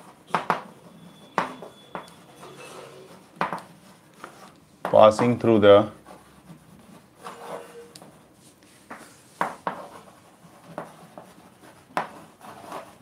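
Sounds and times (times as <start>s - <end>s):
chalk tapping on blackboard: 0.0s - 2.4s, 3.1s - 13.0s
chalk scratching: 0.0s - 4.6s, 5.2s - 13.0s.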